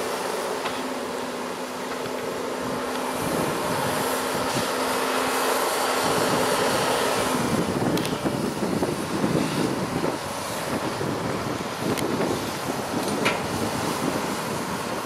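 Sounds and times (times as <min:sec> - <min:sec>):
loader diesel engine working hard: 0:00.0 - 0:15.0.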